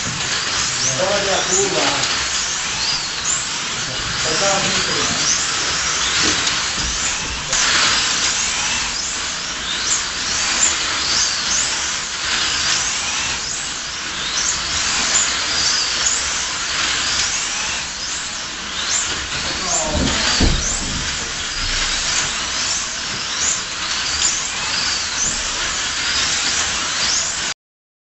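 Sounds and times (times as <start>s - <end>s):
slot car motors whining: 0.0s - 27.5s
steady hiss: 0.0s - 27.5s.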